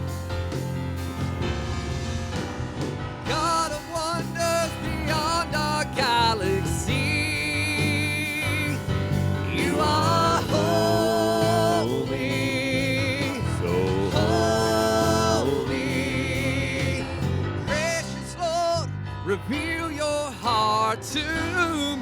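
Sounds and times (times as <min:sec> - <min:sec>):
worship band music: 0:00.0 - 0:22.0.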